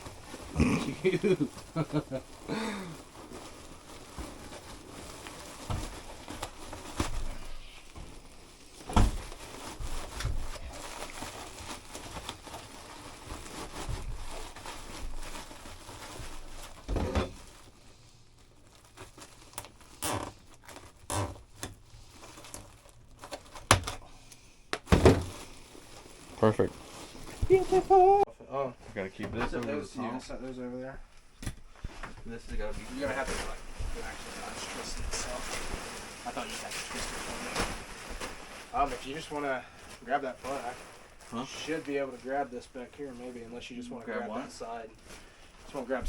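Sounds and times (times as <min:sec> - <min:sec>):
rustling and crinkling: 0:00.0 - 0:46.0.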